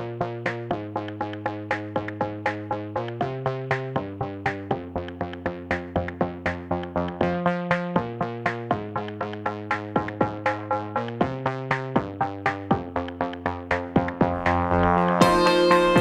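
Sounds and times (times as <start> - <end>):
rhythmic background music: 0.0 - 16.0.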